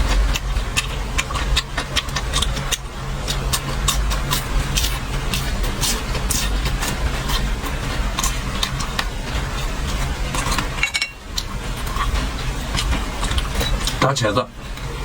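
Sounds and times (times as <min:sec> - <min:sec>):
chewing crisp fried food: 0:00.0 - 0:14.0
steady low hum: 0:00.0 - 0:15.0.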